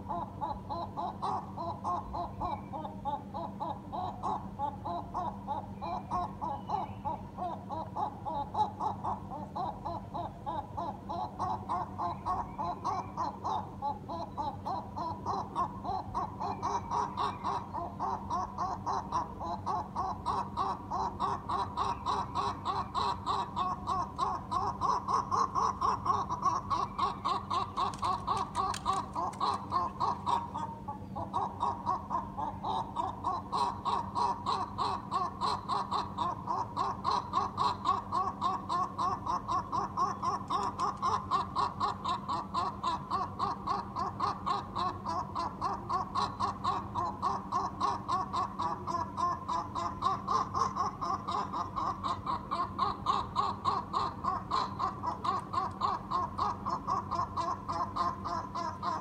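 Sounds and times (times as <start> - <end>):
gull calling rhythmically: 0.0 - 59.0.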